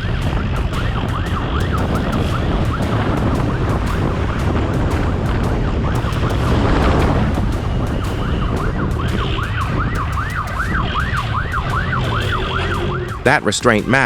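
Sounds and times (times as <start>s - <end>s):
police siren yelping: 0.0s - 13.8s
low rumble: 0.0s - 14.0s.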